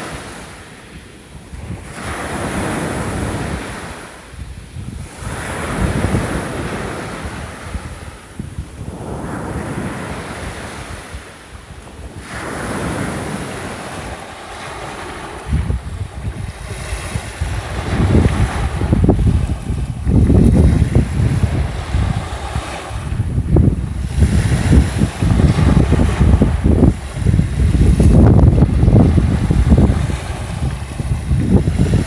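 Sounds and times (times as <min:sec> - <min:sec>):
small waves breaking on shore: 0:00.0 - 0:32.0
wind rumble on microphone: 0:00.0 - 0:32.0.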